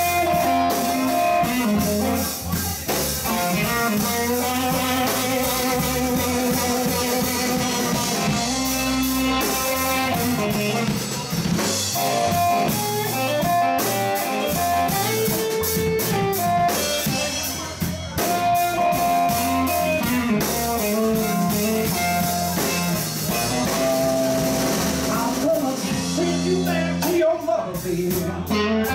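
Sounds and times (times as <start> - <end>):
electric guitar lead: 0.0 - 27.3, 28.4 - 28.9
bass: 0.0 - 28.9
drum kit: 0.0 - 28.9.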